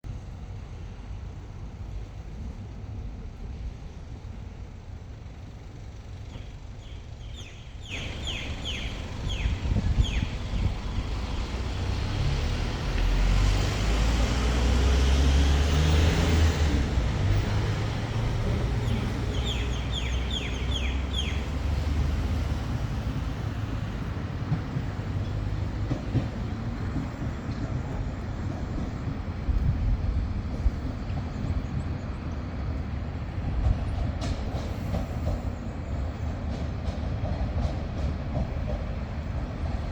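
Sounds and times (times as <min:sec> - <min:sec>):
diesel railcar engine rumble: 0:00.0 - 0:39.9.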